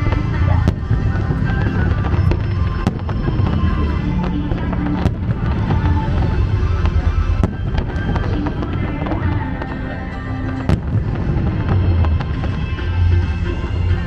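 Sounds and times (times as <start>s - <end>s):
firework cracks: 0.0s - 14.0s
fireworks rumbling: 0.0s - 14.0s
loud music: 0.0s - 14.0s.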